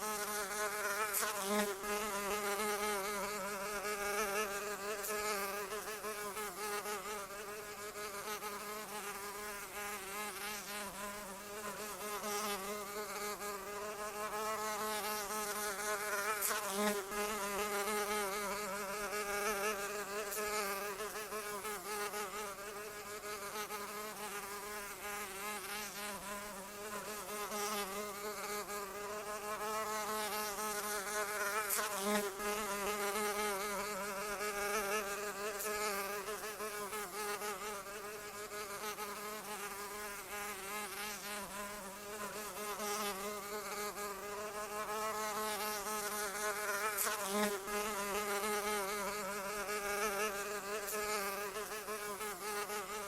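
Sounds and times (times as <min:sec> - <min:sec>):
flying insect buzzing: 0:00.0 - 0:53.0.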